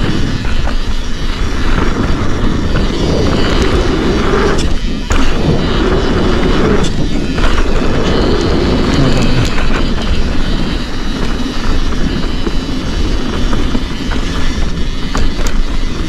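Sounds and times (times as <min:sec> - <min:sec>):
bike rattling over rough ground: 0:00.0 - 0:16.0
bike tyres on dirt: 0:00.0 - 0:16.0
wind buffeting microphone: 0:00.0 - 0:16.0.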